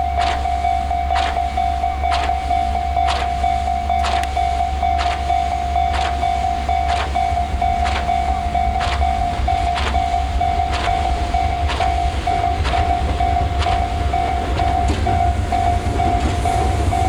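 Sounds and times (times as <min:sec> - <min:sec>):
electric train rumbling past: 0:00.0 - 0:17.0
level crossing warning bell: 0:00.0 - 0:17.0
train wheel clacking: 0:00.0 - 0:17.0.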